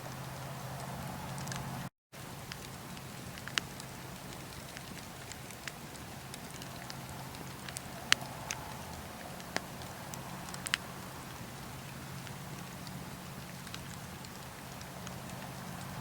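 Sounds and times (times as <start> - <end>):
wood fire crackling and popping: 0.1 - 16.0.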